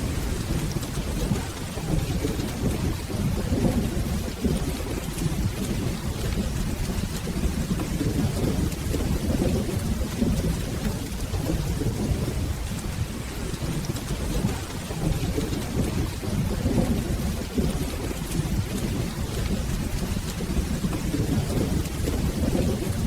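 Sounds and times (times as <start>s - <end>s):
low rolling thunder: 0.0s - 23.0s
rain hissing: 0.0s - 23.0s.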